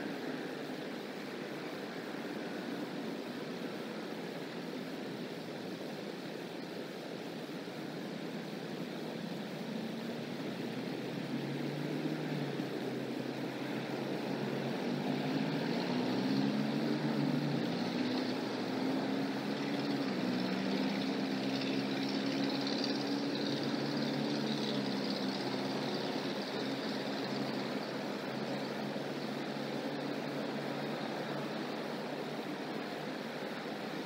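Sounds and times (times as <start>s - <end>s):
background hiss: 0.0s - 34.0s
distant engine humming: 0.0s - 34.0s.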